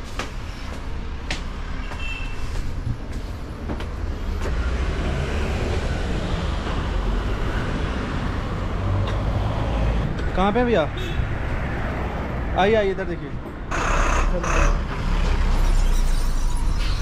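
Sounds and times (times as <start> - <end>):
motor vehicle rumbling: 2.4 - 17.0.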